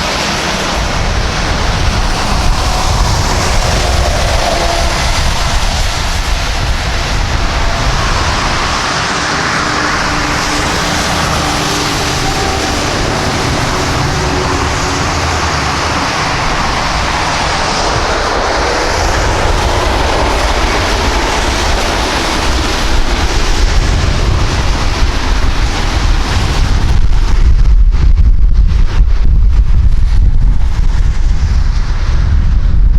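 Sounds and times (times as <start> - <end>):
deep rumble: 0.0 - 32.9
jet airliner roaring: 0.0 - 32.9
wind buffeting microphone: 0.0 - 32.9.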